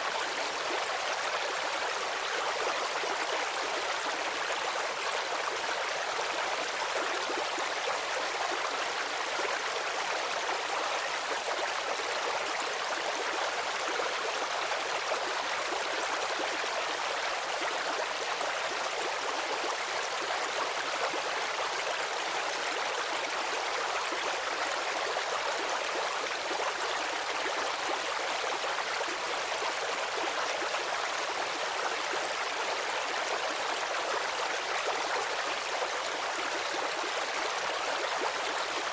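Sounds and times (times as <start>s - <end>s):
stream water over stones: 0.0s - 38.9s.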